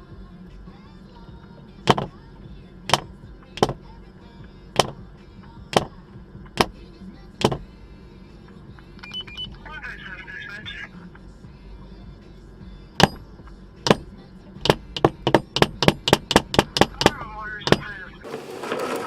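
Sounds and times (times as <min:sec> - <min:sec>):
car low rumble: 0:00.0 - 0:18.3.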